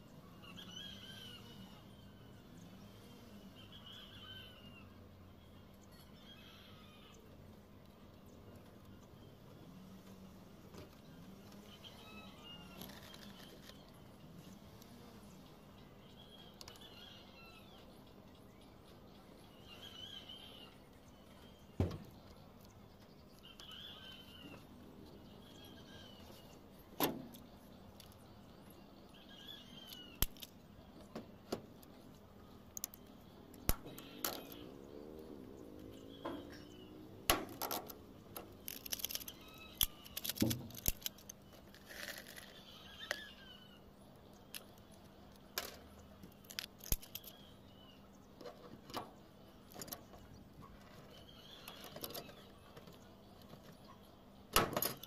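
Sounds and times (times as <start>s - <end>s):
faint bird chirps: 0.0s - 37.2s, 37.8s - 55.0s.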